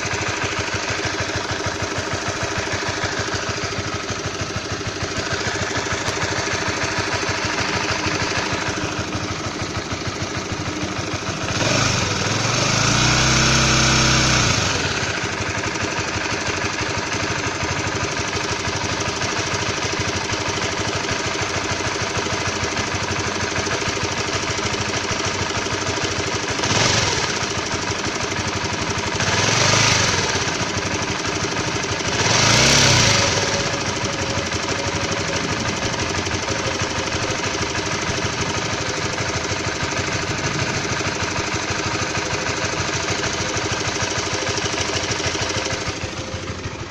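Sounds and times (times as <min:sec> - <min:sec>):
engine rattling knock: 0:00.0 - 0:46.9
motorcycle engine idling: 0:00.0 - 0:46.9
motorcycle engine revving: 0:00.0 - 0:46.9.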